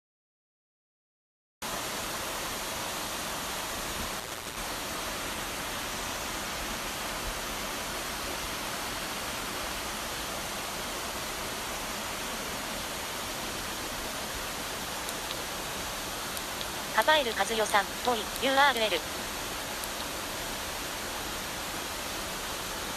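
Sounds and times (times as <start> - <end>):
waterfall rushing: 1.7 - 22.9.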